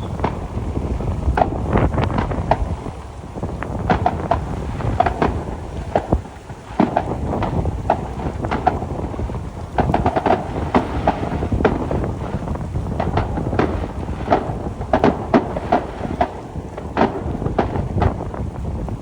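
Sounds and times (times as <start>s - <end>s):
fireworks sharp bangs: 0.0s - 19.0s
low rumble of booms: 0.0s - 19.0s
wind noise on microphone: 0.0s - 19.0s.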